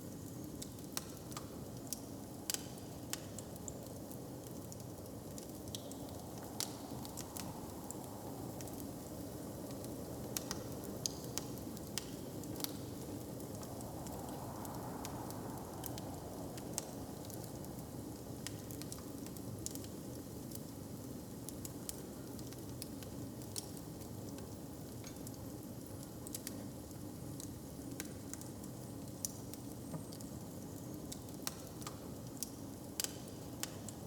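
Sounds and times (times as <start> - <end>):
fire crackling and popping: 0.2 - 34.0.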